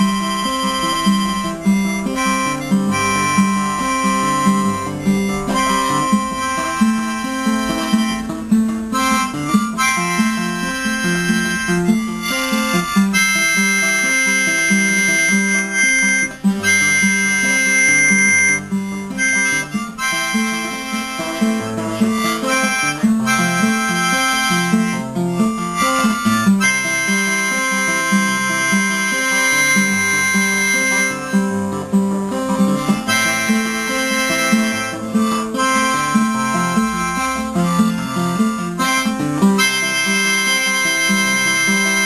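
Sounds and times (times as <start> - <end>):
acoustic guitar accompaniment: 0.0 - 42.0
harmonica melody: 0.0 - 42.0.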